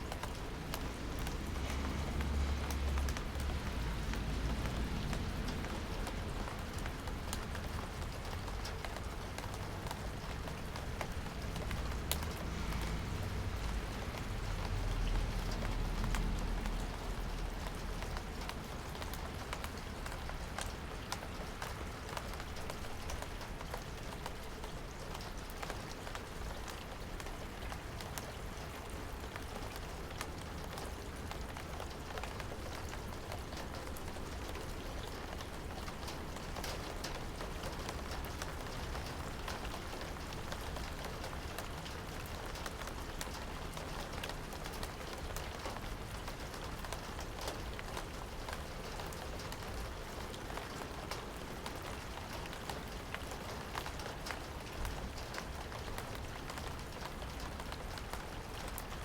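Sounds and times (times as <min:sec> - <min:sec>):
raindrops ticking on a surface: 0:00.0 - 0:59.0
steady rain: 0:00.0 - 0:59.0.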